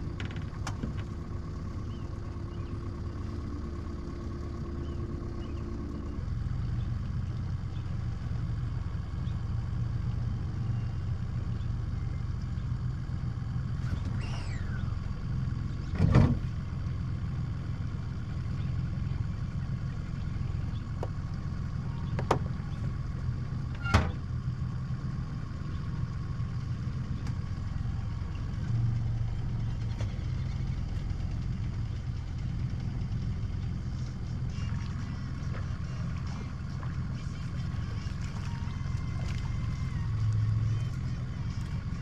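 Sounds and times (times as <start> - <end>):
outboard motor humming: 0.0 - 42.0.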